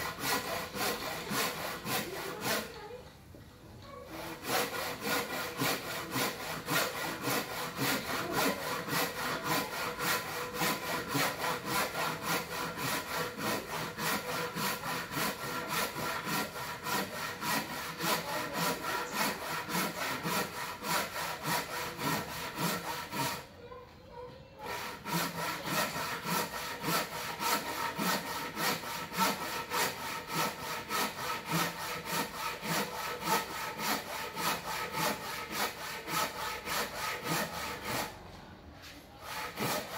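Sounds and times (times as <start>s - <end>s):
hand saw cutting wood: 0.0s - 3.0s, 3.8s - 23.6s, 24.4s - 39.9s.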